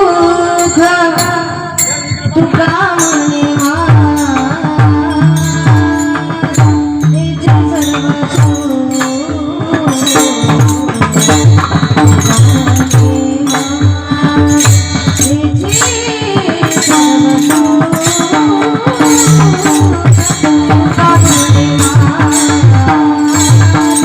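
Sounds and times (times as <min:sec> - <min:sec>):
small cymbals jingling: 0:00.0 - 0:24.0
wavering melody: 0:00.0 - 0:24.0
hand drum strokes: 0:00.4 - 0:24.0.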